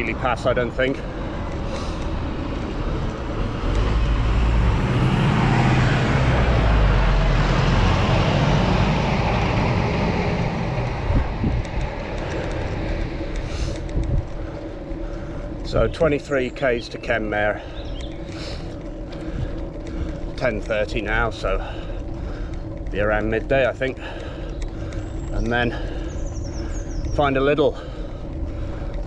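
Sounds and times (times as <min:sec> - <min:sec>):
vehicle passing by: 0:00.0 - 0:29.0.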